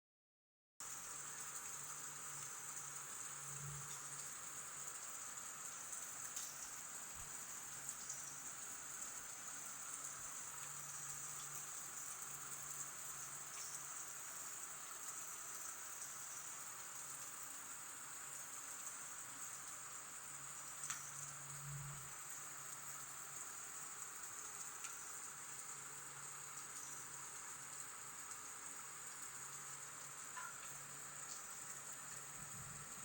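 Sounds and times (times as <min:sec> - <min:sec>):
rain falling: 0:01.0 - 0:33.0.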